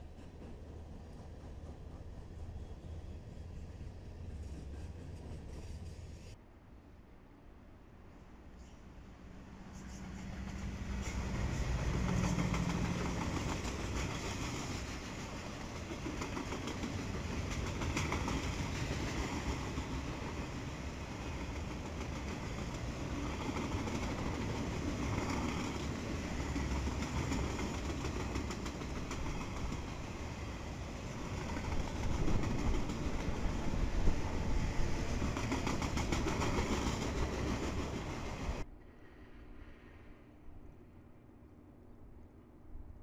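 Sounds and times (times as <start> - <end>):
diesel locomotive engine: 0.0 - 6.4, 9.0 - 40.6.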